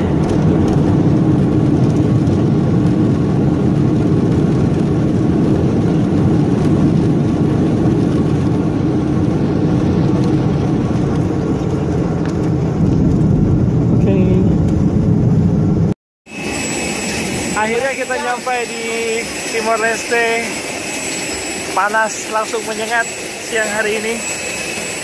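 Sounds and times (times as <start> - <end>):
jet engines rumbling on landing: 0.0 - 25.0.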